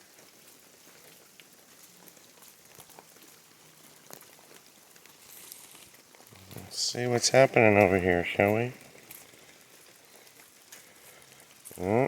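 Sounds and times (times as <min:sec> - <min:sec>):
faint rain hiss: 0:00.0 - 0:12.0.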